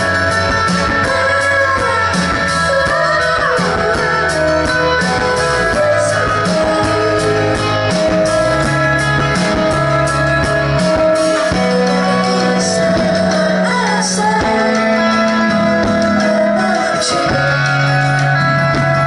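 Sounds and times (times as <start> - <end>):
bass line: 0.0 - 19.0
drum and cymbal hits: 0.0 - 19.0
guitar chords: 0.0 - 19.0.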